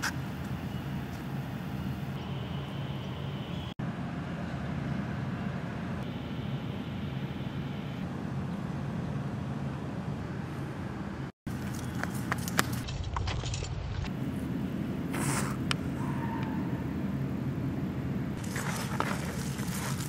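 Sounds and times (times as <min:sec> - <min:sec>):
outdoor ambient rumble: 0:00.0 - 0:20.0.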